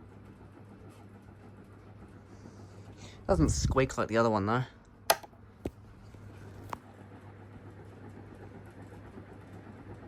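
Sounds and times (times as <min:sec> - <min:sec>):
ceiling fan humming with grinding rumble: 0:00.0 - 0:10.0.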